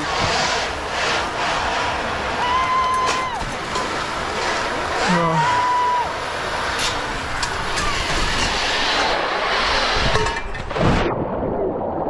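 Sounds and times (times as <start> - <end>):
rushing splashing water: 0.0 - 12.0.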